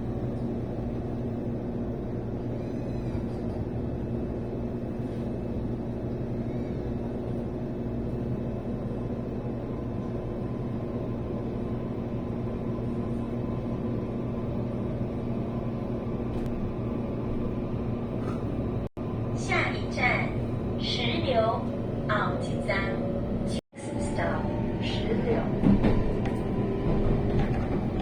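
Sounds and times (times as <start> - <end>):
train carriage rumble: 0.0 - 28.0.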